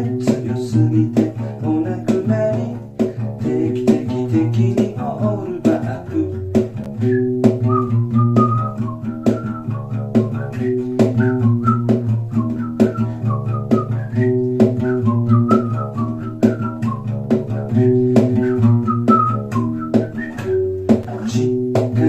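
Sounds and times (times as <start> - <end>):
plucked one-string instrument: 0.0 - 22.0.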